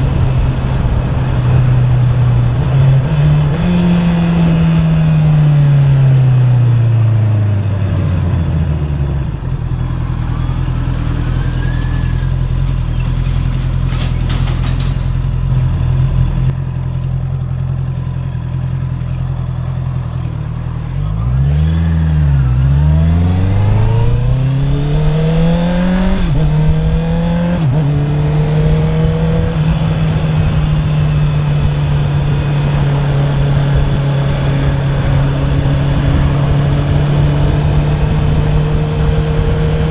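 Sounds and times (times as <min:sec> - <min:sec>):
quickshifter upshifts: 0:00.0 - 0:16.6, 0:18.0 - 0:39.9
motorcycle engine revving: 0:00.0 - 0:39.9.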